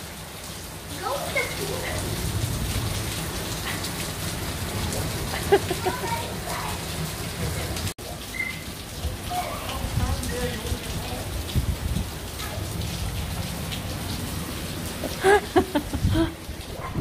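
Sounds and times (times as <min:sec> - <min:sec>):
rain falling on pool: 0:00.0 - 0:17.0.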